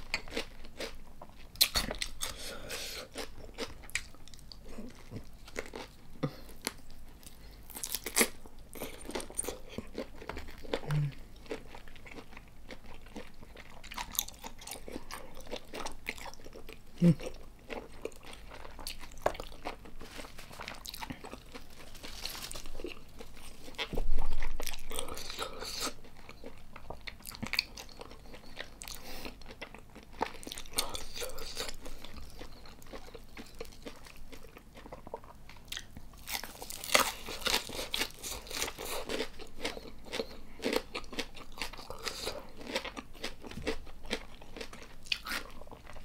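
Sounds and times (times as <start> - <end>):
close-up biting and chewing: 0.0 - 46.0.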